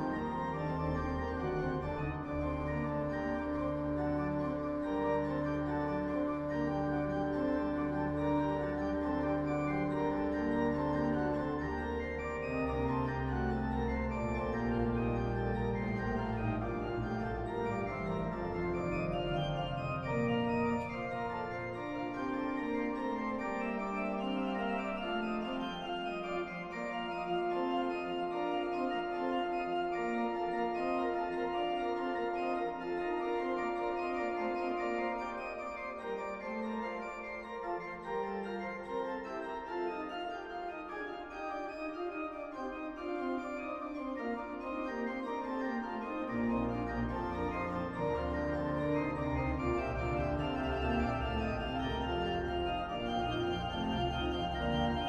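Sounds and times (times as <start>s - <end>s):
organ playing slow chords: 0.1s - 36.5s, 41.7s - 55.0s.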